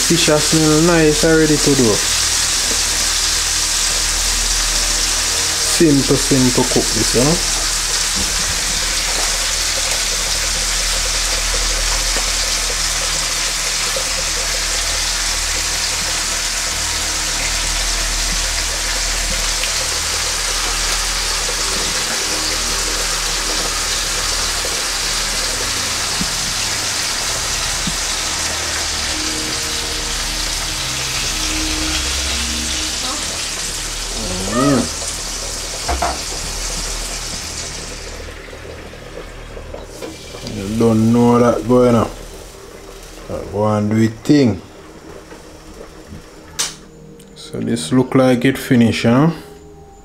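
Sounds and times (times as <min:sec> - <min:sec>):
fish sizzling in a pot: 0:00.0 - 0:47.0.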